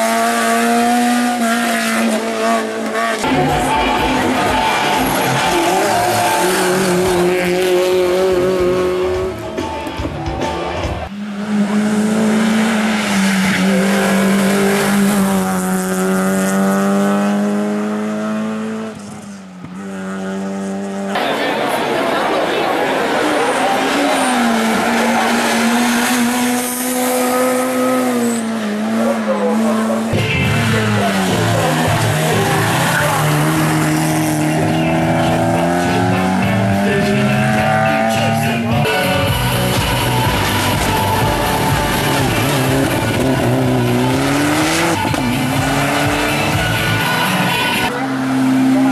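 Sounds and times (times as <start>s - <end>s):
race car engine at high revs: 0.0s - 48.9s.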